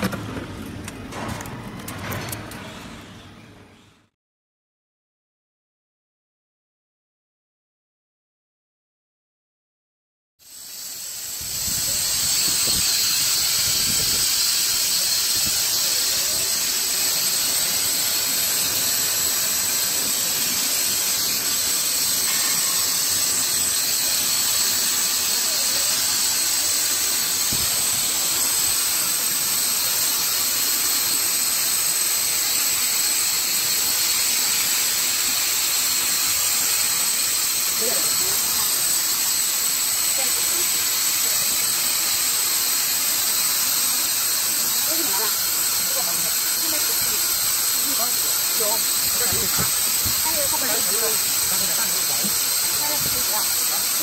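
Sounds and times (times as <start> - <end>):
laser cutter air hiss: 10.4 - 54.0.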